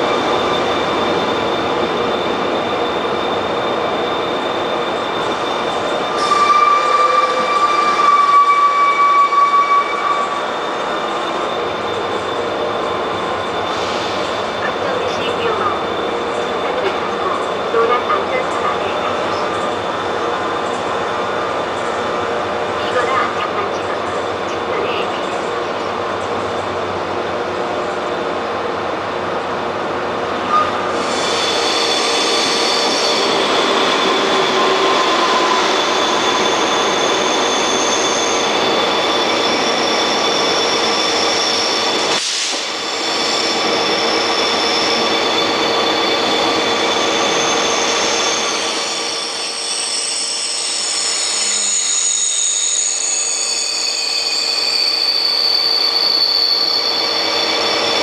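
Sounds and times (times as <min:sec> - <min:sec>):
high-speed train passing: 0:00.0 - 0:58.0
passenger train rail noise: 0:00.0 - 0:58.0.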